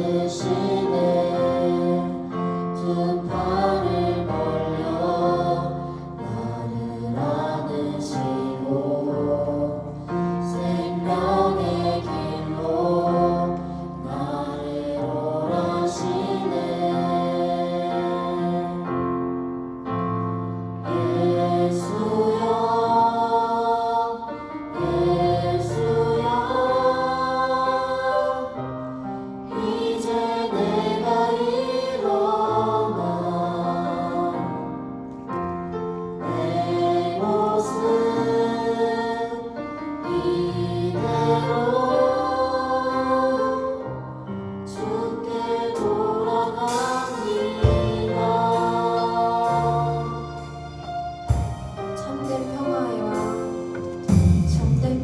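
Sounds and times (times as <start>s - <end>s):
choir singing gospel song: 0.0s - 55.0s.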